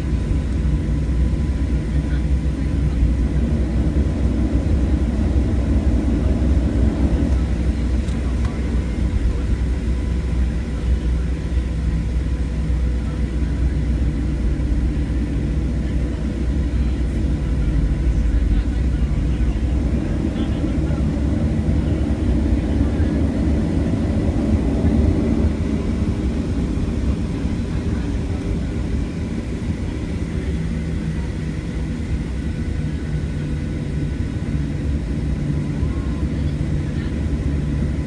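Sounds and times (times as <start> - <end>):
jet engine cabin rumble: 0.0 - 38.0.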